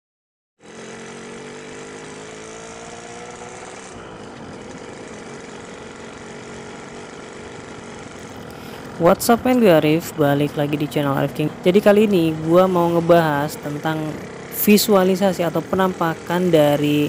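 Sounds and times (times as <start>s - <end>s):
two-stroke motorcycle engine: 0.6s - 17.0s.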